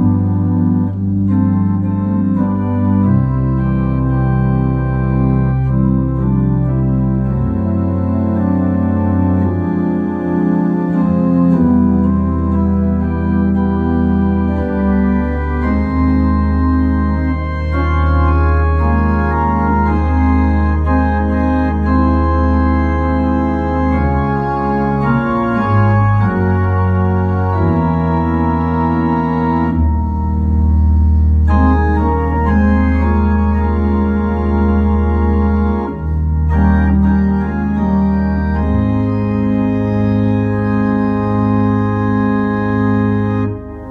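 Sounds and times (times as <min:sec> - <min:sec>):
organ-like keyboard chords: 0:00.0 - 0:43.9.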